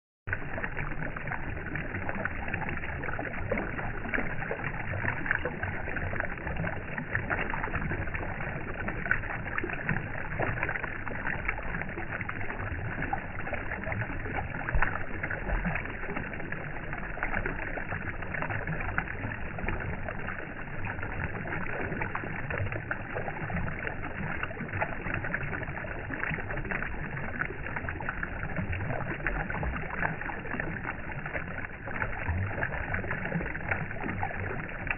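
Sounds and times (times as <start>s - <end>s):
steady rushing noise with crackle: 0.3s - 34.9s.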